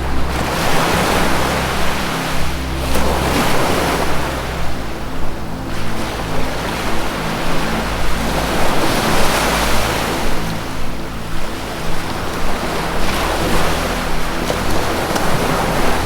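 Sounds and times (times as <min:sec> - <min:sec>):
low musical drone: 0:00.0 - 0:16.0
ocean surf washing in: 0:00.0 - 0:16.0.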